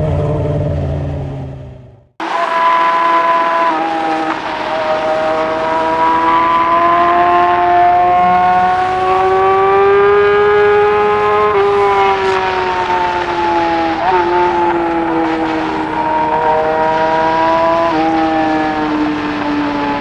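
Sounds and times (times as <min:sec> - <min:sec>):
motorcycle engine under load: 0:00.0 - 0:20.0.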